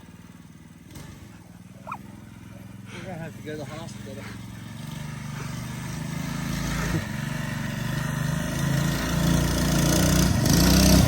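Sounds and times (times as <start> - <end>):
small bike engine revving: 0.0 - 11.0.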